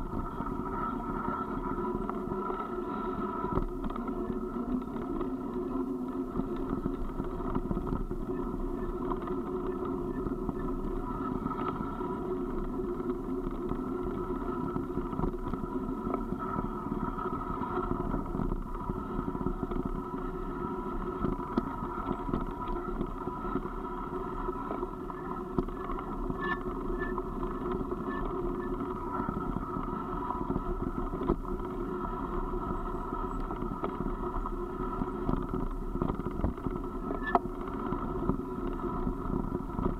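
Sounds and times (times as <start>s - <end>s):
tyres rolling on gravel road: 0.0s - 39.9s
small ticks: 0.1s - 39.9s.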